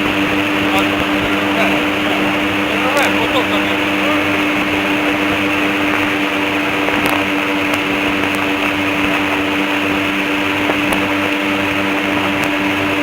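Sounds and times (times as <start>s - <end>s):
airboat engine droning: 0.0s - 13.0s.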